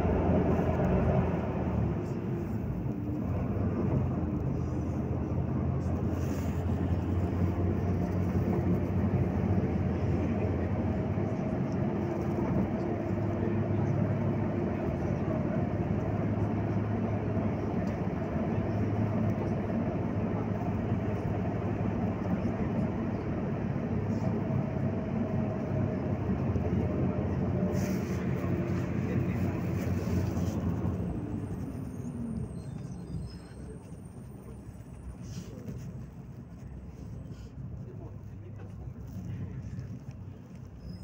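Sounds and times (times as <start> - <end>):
bus engine hum: 0.0 - 41.0
road and cabin noise: 0.0 - 41.0.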